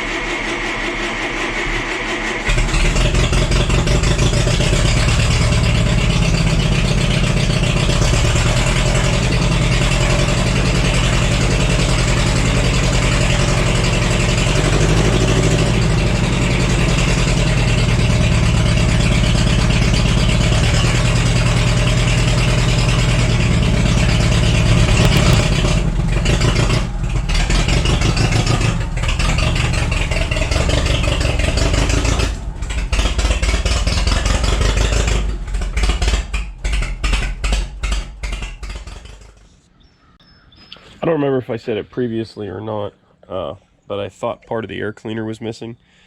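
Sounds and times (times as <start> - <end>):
forklift engine running and misfiring: 0.0 - 39.7.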